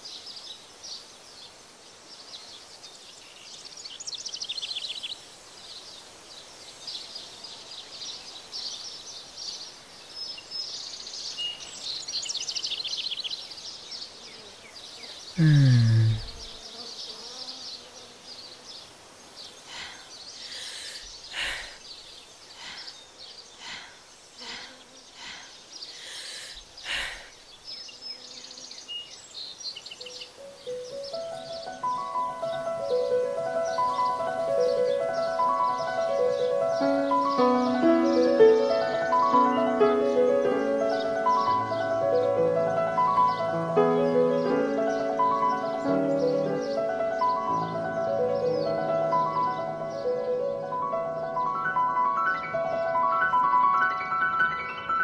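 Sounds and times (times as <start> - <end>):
insects trilling: 0.0 - 52.5.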